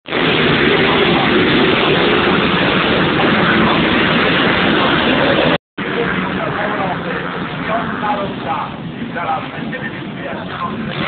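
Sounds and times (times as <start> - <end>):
motocross bikes droning: 0.2 - 11.0.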